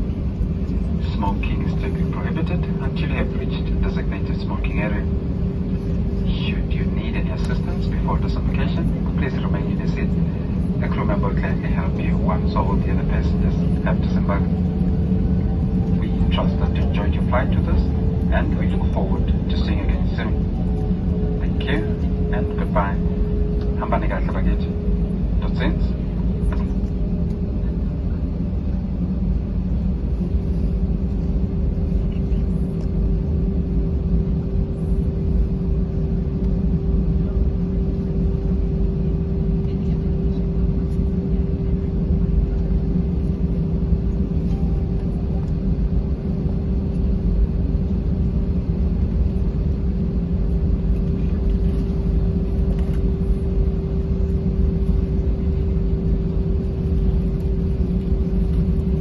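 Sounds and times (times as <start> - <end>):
aircraft cabin rumble: 0.0 - 59.0
steady hum: 0.0 - 59.0.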